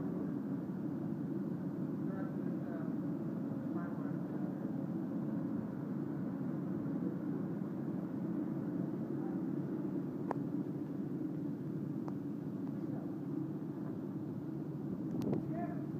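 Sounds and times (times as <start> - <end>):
low engine rumble: 0.0 - 15.9.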